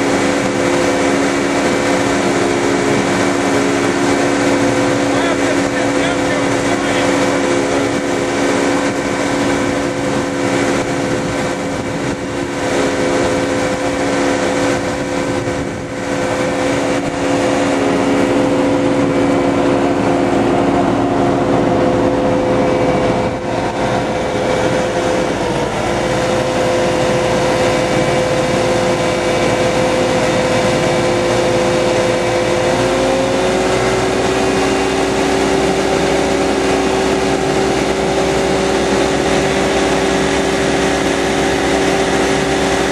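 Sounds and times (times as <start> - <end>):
churning prop wash: 0.0 - 42.9
hydraulic thruster machine hum: 0.0 - 42.9.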